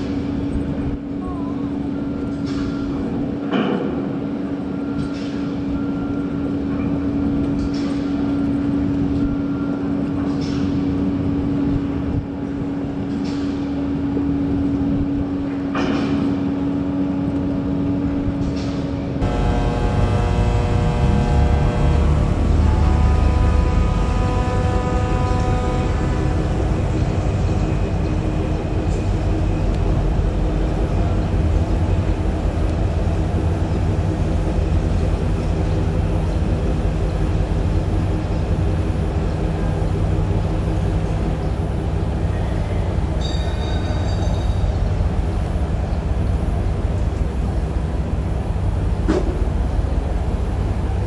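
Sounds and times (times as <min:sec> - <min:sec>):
ship engine droning: 0:00.0 - 0:51.0.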